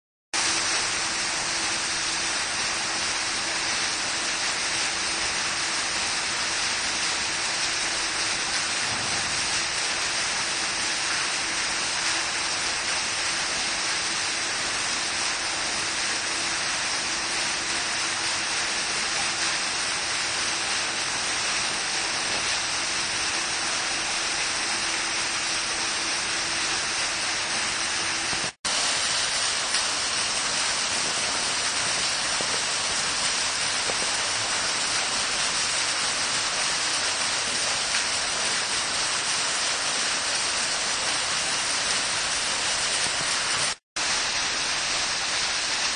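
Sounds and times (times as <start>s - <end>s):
fountain water splashing: 0.4s - 45.9s.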